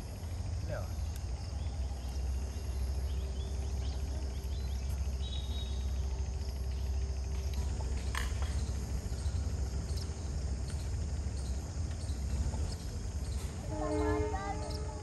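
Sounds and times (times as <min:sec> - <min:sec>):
crickets and insects humming: 0:00.0 - 0:15.0.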